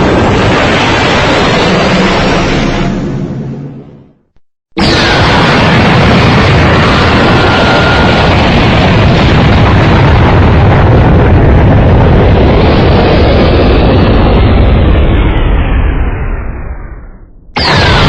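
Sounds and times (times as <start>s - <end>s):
explosion with rumbling roar: 0.0s - 4.2s, 4.8s - 18.0s.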